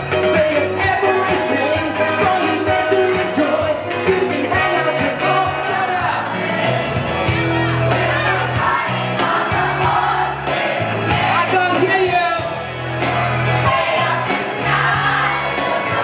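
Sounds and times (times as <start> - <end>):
crowd singing along: 0.0 - 16.0
pop-rock song with singer: 0.0 - 16.0
steady drum beat: 0.0 - 16.0.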